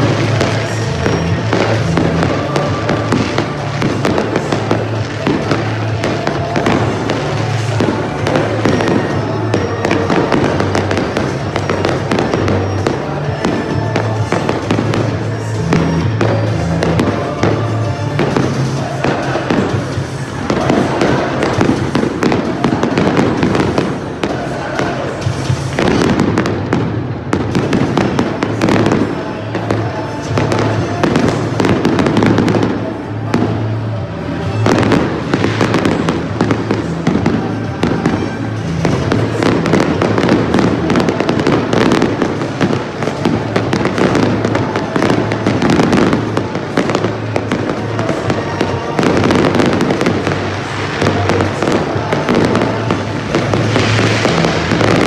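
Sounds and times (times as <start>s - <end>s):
fireworks bangs and crackles: 0.0s - 55.0s
music playing: 0.0s - 55.0s.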